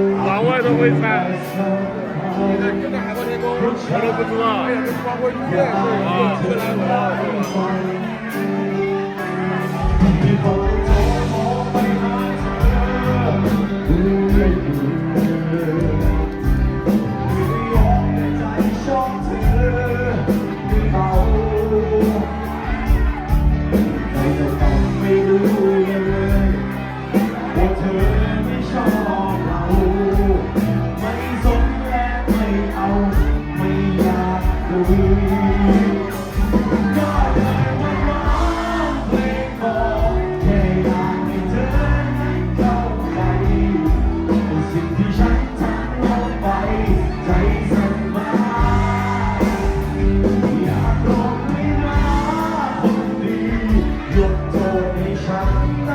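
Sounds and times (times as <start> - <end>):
live band playing: 0.0 - 55.9
person singing: 0.0 - 55.9
steady drum beat: 9.8 - 55.9.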